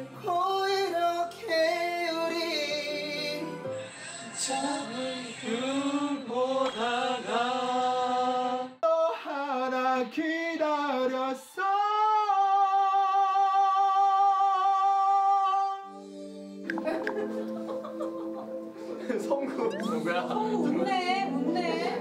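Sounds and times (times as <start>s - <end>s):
person singing with vibrato: 0.0s - 19.0s.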